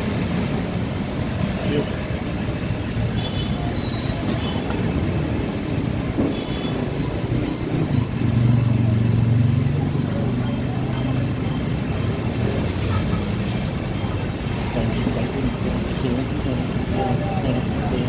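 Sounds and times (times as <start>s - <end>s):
heavy vehicle engine hum: 0.0s - 18.0s
vehicles passing on wet road: 0.0s - 18.0s.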